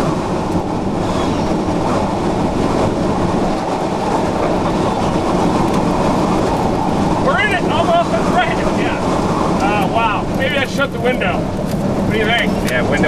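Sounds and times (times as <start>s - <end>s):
tornado winds rushing over vehicle: 0.0s - 13.0s.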